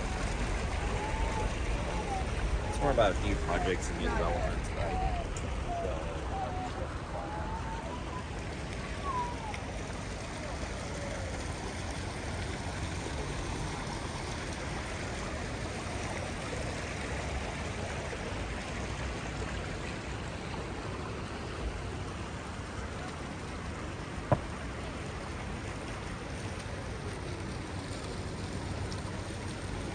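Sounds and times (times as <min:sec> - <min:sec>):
fountain water splashing: 0:00.0 - 0:29.9.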